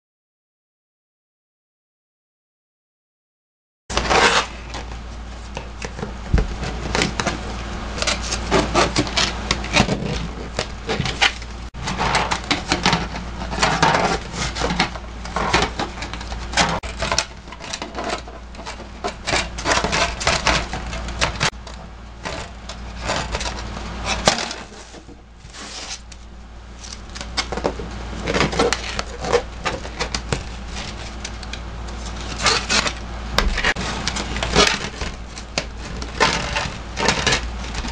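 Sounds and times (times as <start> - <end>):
low steady hum: 3.9 - 37.9.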